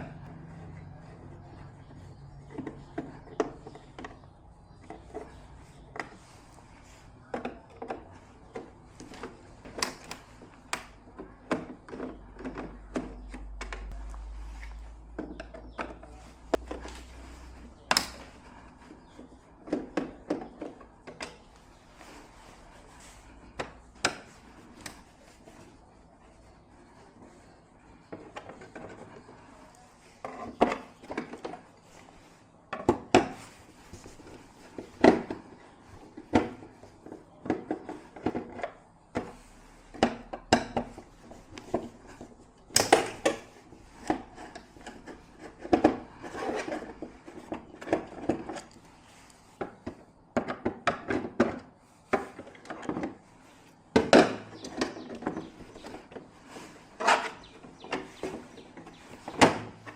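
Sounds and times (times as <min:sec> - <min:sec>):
hard objects clicking and knocking: 0:00.0 - 0:25.8, 0:26.7 - 0:53.3, 0:53.9 - 0:59.9.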